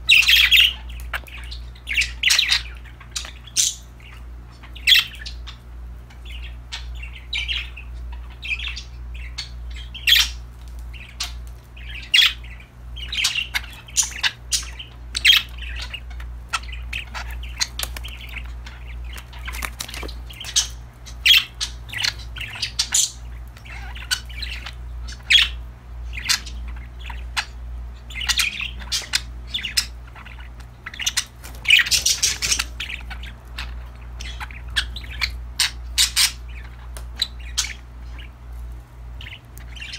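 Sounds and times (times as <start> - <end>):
budgerigars chirping and squawking: 0.0 - 39.9
steady low hum: 0.0 - 39.9.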